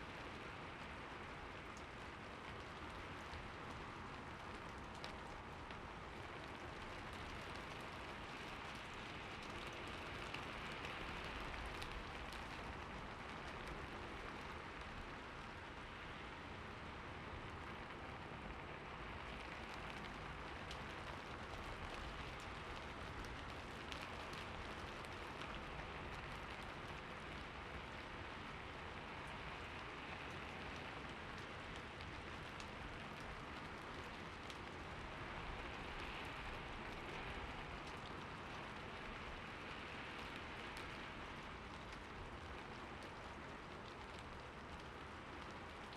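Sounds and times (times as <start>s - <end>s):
light rain pattering: 0.0s - 45.9s.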